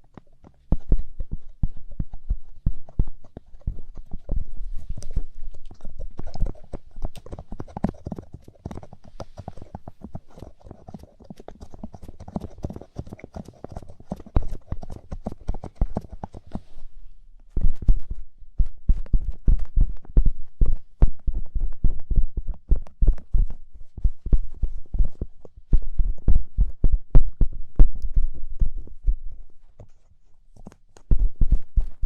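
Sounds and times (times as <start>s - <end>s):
ear pick crackly scratches: 0.0s - 16.9s, 17.5s - 32.0s.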